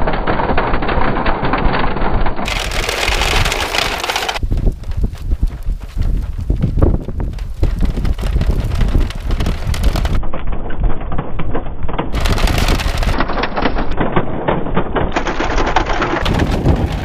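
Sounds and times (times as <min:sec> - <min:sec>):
low rumble: 0:00.0 - 0:17.0
toy truck clattering over paving: 0:00.0 - 0:17.0.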